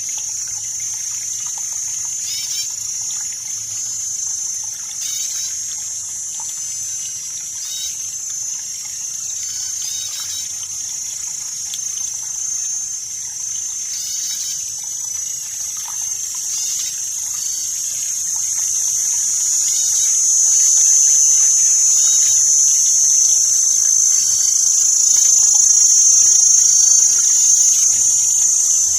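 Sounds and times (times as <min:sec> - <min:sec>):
insects chirring: 0:00.0 - 0:28.9
trickle of running water: 0:00.0 - 0:28.9.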